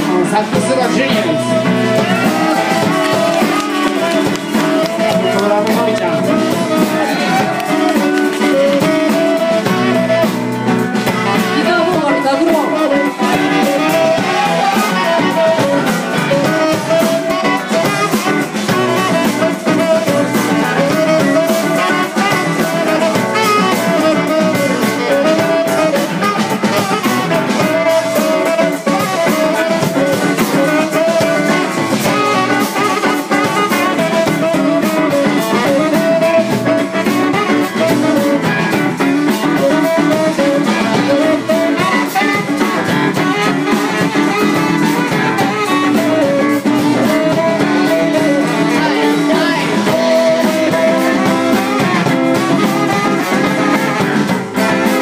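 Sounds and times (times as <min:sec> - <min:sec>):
drum kit: 0:00.0 - 0:55.0
saxophone melody: 0:00.0 - 0:55.0.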